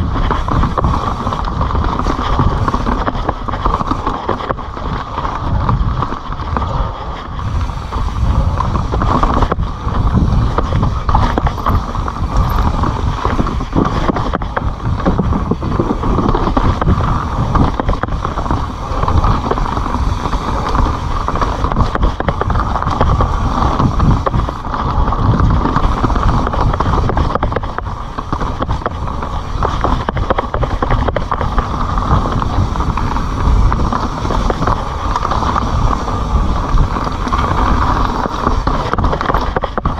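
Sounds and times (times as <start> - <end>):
bike rattling and knocking: 0.0 - 39.9
tyres rolling on dirt: 0.0 - 39.9
wind rushing: 0.0 - 39.9.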